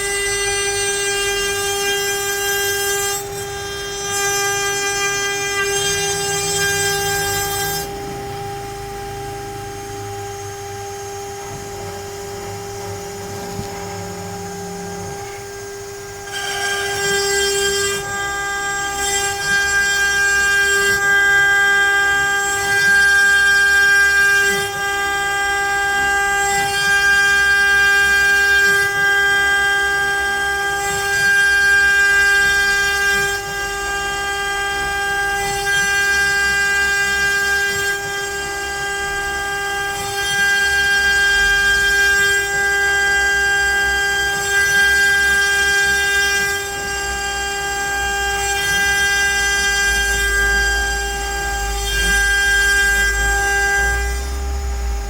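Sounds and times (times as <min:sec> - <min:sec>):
bit cutting wood: 0:00.0 - 0:55.0
router spindle whining: 0:00.0 - 0:55.0.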